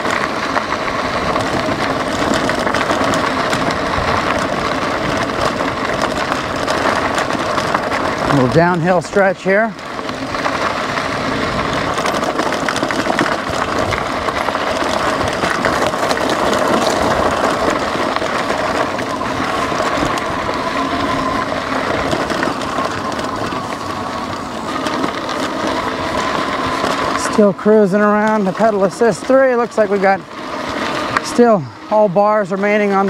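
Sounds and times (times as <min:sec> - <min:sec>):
bike rattling over bumps: 0:00.0 - 0:33.0
faint wavering whine: 0:00.0 - 0:33.0
tyres on dirt and gravel: 0:00.0 - 0:33.0.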